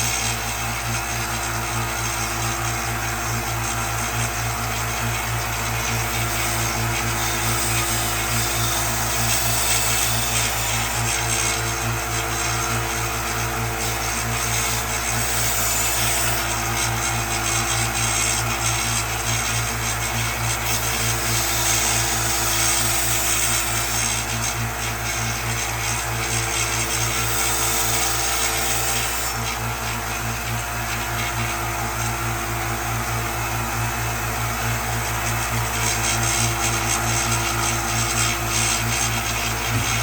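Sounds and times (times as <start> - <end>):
power tool sanding wood: 0.0 - 40.0.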